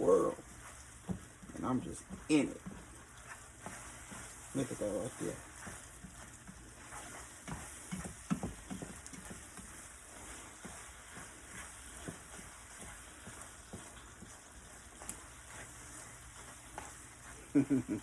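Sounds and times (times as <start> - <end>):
food sizzling in hot oil: 0.0 - 18.0
oil popping and crackling: 0.0 - 18.0.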